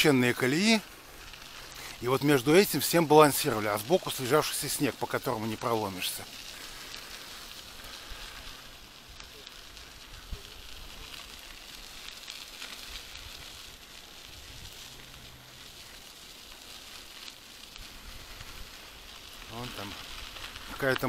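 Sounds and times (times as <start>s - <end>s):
bicycle tyres on sandy dirt: 0.0s - 21.0s.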